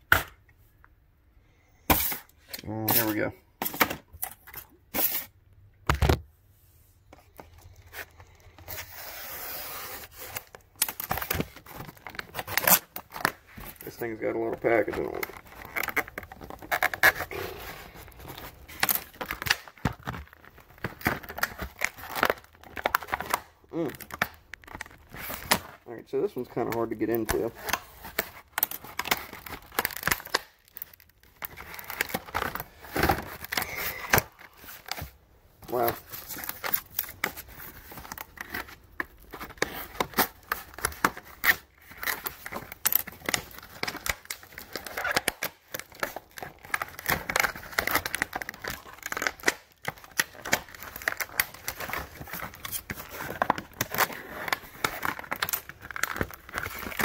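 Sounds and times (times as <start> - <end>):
plastic packaging being torn open: 7.7 - 35.1, 35.7 - 57.0.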